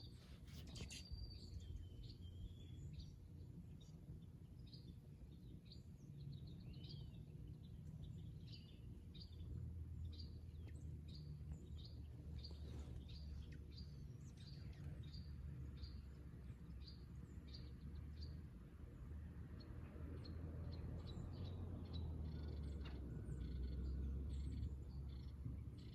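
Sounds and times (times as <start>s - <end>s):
faint low rumble: 0.0s - 25.9s
bird chirping: 0.5s - 25.9s.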